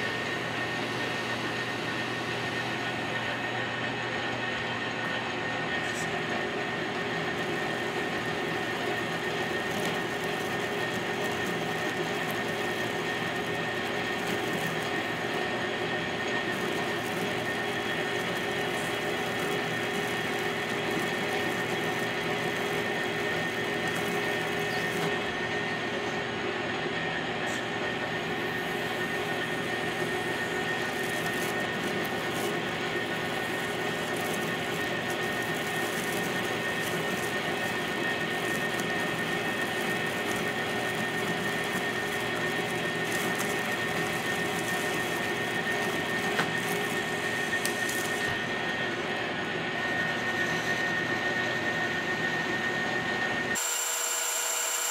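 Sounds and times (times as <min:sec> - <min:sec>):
metal lathe cutting: 0:00.0 - 0:54.9.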